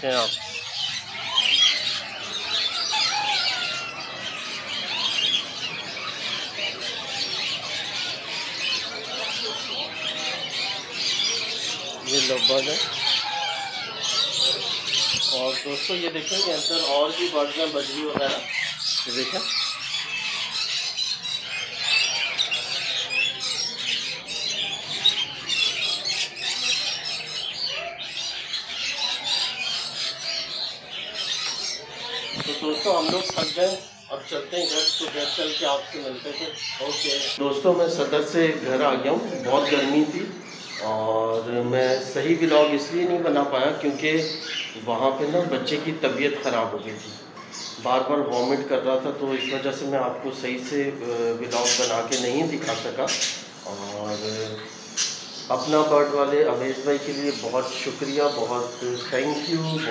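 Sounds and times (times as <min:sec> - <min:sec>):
many birds chirping and squawking: 0:00.0 - 0:59.9.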